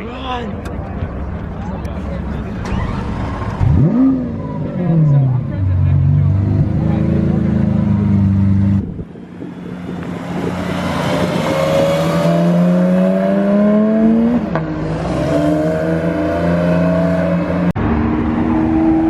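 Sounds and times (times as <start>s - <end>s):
sports car engine accelerating: 2.2s - 19.0s.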